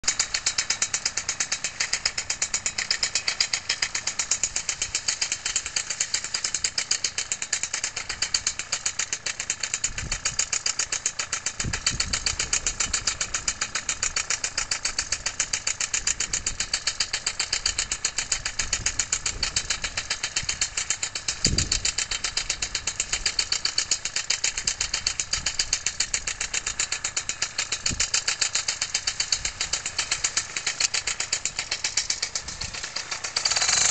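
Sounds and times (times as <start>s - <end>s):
small engine idling: 0.0s - 33.9s.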